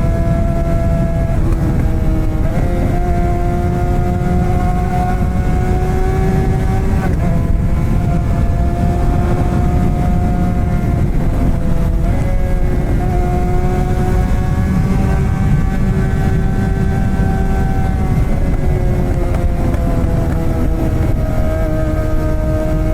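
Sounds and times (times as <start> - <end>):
motorcycle engine running: 0.0 - 22.9
wind rumble on microphone: 0.0 - 22.9.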